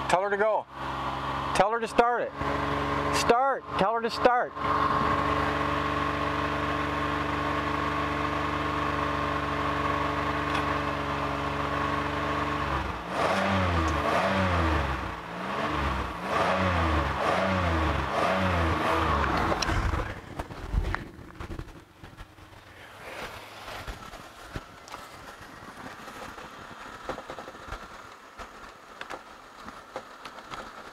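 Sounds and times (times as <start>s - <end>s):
car engine revving: 0.7s - 27.6s.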